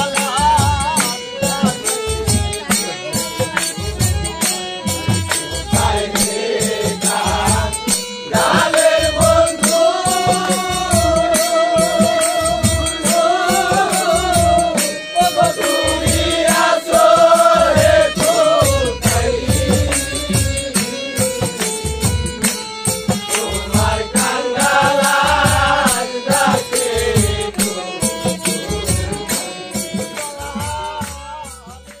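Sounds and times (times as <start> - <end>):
men singing in chorus: 0.0 - 32.0
steady drum beat: 0.0 - 32.0.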